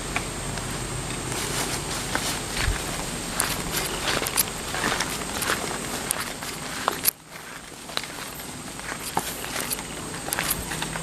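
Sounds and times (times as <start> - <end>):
footsteps through dry leaves: 1.2 - 11.0
twigs snapping: 1.2 - 11.0.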